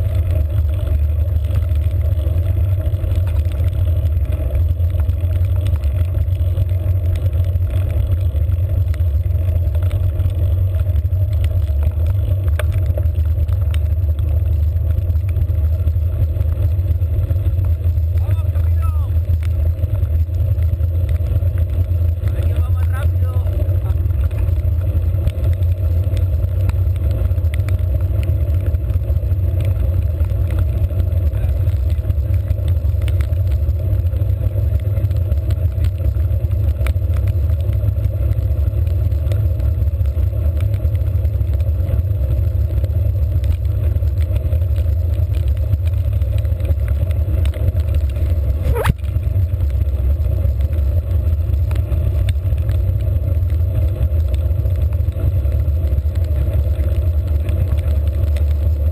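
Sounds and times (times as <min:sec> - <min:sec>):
road noise: 0:00.0 - 0:58.9.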